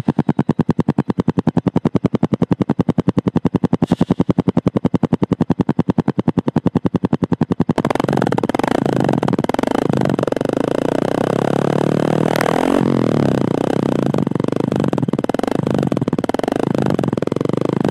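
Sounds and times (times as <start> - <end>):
motorcycle exhaust idling: 0.0 - 17.9.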